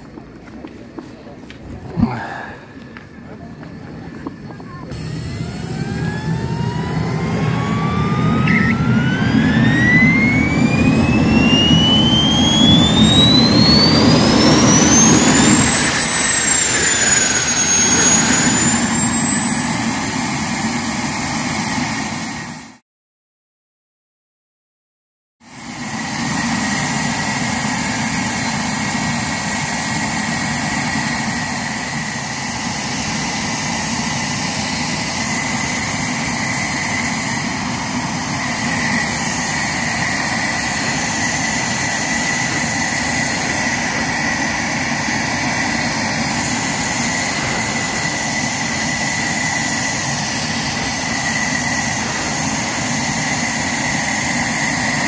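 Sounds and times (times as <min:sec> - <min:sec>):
jet turbine roaring and whining: 0:01.3 - 0:22.8, 0:25.4 - 0:55.0.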